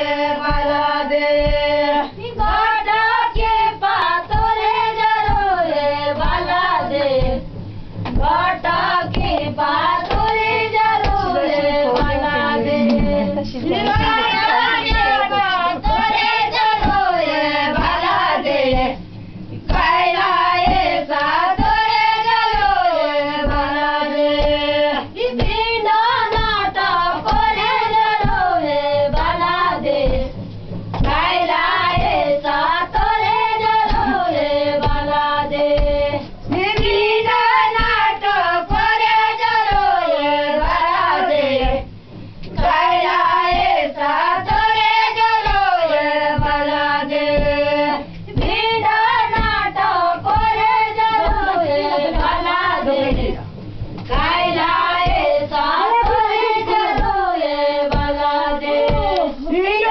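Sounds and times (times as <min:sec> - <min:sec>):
steady thumping beat: 0:00.0 - 0:59.9
women singing in unison: 0:00.0 - 0:59.9.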